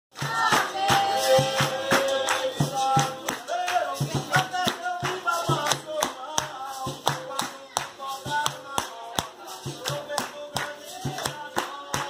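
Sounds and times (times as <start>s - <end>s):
group singing: 0.1s - 12.0s
hand clapping: 0.1s - 12.0s
percussion: 0.1s - 12.0s.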